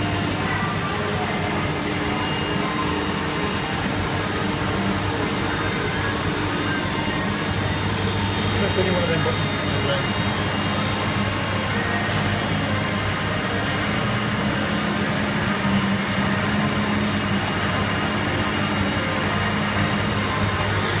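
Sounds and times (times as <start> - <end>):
lathe running: 0.0 - 21.0.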